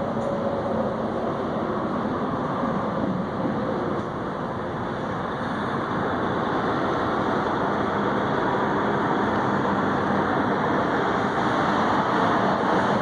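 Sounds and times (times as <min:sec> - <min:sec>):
heavy truck engines idling: 0:00.0 - 0:13.0.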